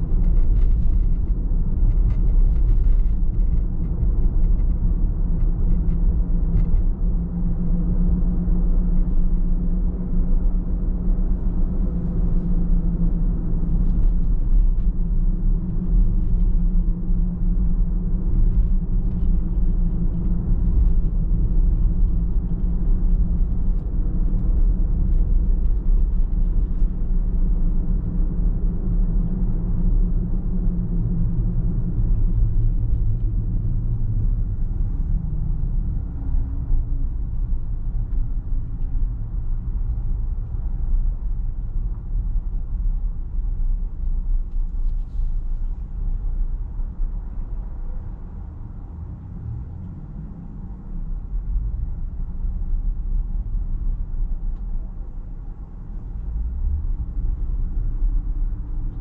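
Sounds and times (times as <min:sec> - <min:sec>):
car engine and tyres rumbling: 0:00.0 - 0:59.0
low hum: 0:00.0 - 0:59.0.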